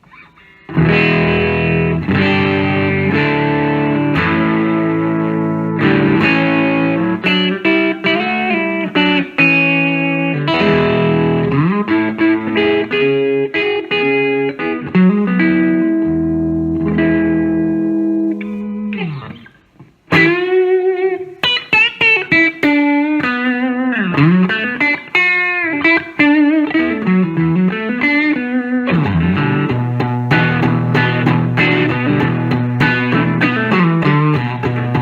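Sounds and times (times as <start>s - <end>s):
overdriven electric guitar playing: 0.0s - 35.0s.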